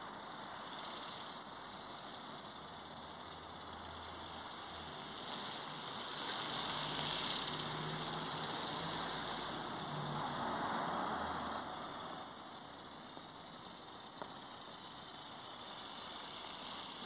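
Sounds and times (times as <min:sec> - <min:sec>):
toy bird whirring: 0:00.0 - 0:17.0.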